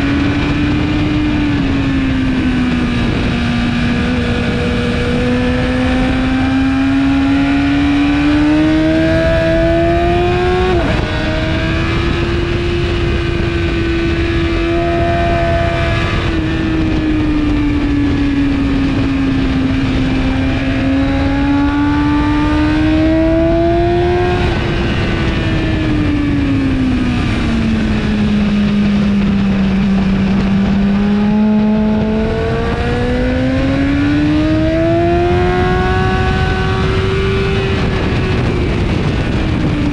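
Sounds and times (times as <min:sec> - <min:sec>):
sport bike engine at high revs: 0:00.0 - 0:39.9
wind rush: 0:00.0 - 0:39.9.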